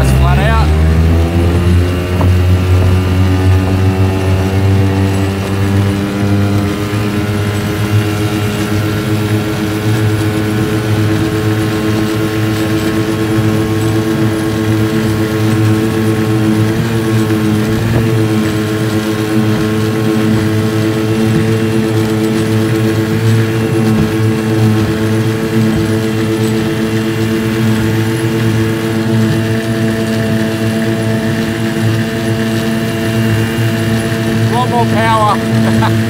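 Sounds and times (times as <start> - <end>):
outboard motor running flat out: 0.0 - 36.0.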